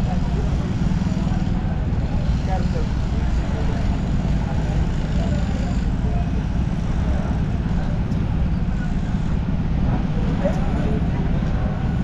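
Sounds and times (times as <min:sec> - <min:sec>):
faint voices: 0:00.0 - 0:12.0
motorcycle engines rumbling: 0:00.0 - 0:12.0.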